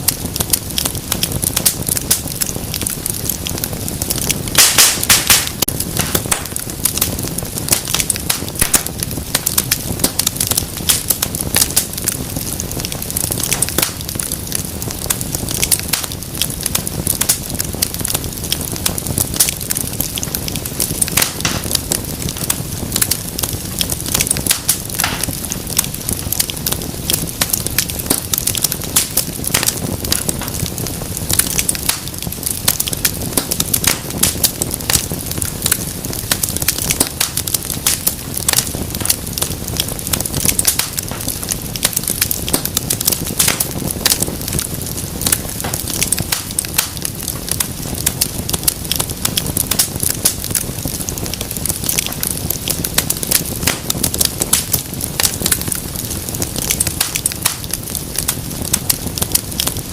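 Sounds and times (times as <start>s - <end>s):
low rumble of flame: 0.0s - 59.9s
wood fire crackling: 0.0s - 59.9s.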